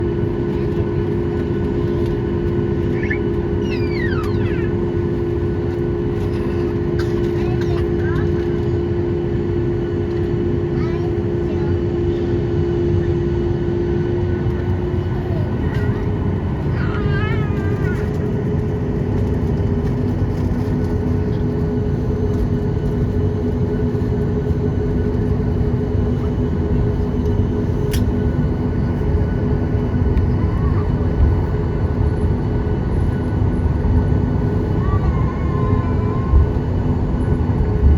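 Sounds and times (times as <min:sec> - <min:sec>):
engine drone: 0:00.0 - 0:37.9
mechanical rumble with hum: 0:00.0 - 0:37.9.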